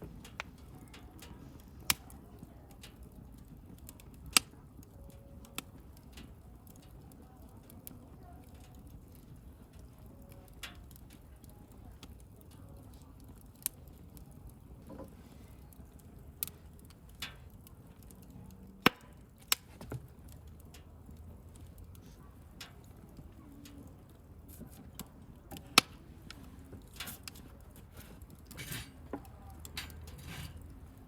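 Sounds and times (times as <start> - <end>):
bonfire popping: 0.0 - 31.0
rumble of flames: 0.0 - 31.0.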